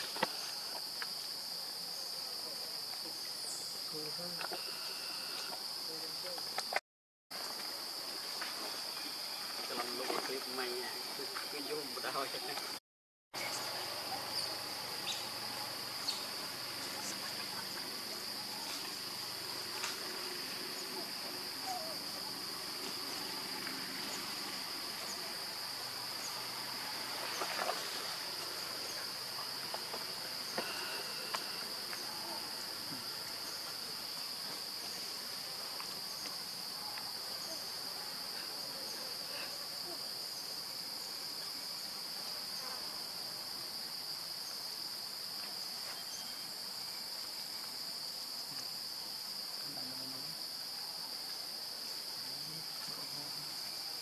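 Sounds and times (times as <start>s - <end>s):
insects buzzing: 0.0s - 6.8s, 7.4s - 12.8s, 13.4s - 54.0s.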